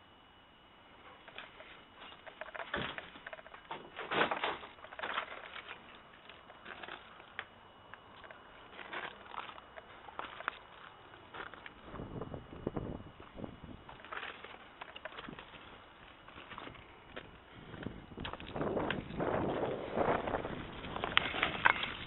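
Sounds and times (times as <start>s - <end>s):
footsteps crunching on rubble: 1.3s - 22.0s.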